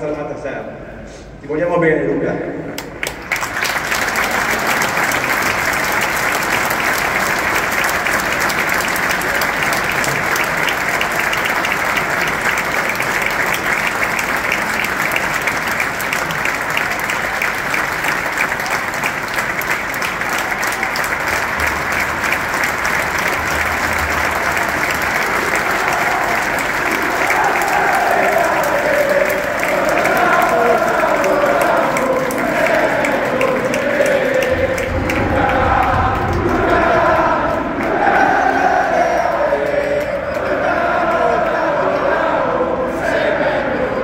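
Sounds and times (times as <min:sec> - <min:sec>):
stadium crowd applauding: 0:02.8 - 0:44.0.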